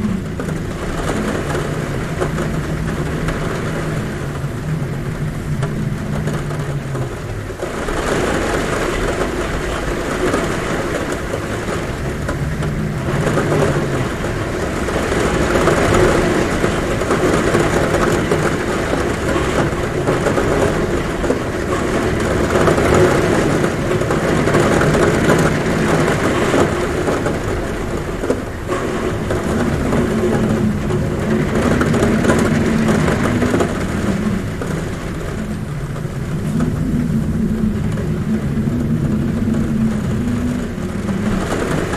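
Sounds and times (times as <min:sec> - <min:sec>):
heavy rain on a roof: 0:00.0 - 0:41.9
wind humming at window: 0:00.0 - 0:41.9.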